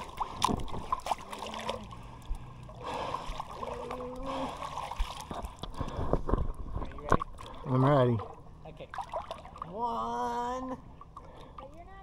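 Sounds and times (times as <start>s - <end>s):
small splashes and drips: 0.0s - 10.1s
pool water lapping and trickling: 0.0s - 12.0s.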